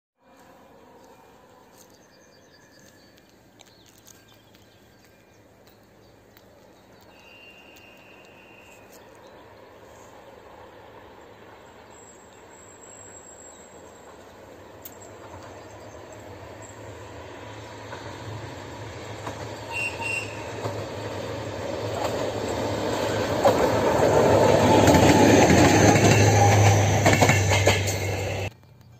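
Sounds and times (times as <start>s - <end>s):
diesel locomotive engine drone: 0.2s - 28.9s
open-air ambience: 0.2s - 28.9s.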